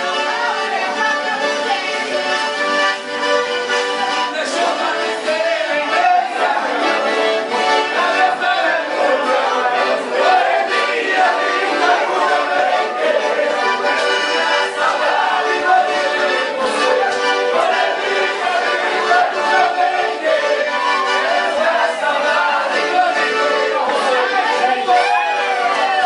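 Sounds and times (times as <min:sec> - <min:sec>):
accordion dance music: 0:00.0 - 0:26.0.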